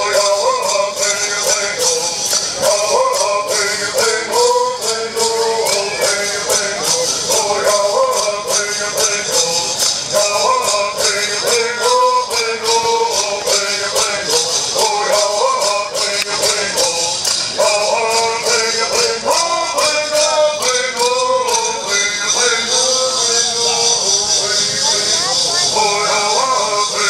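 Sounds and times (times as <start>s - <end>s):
people singing: 0.0s - 27.0s.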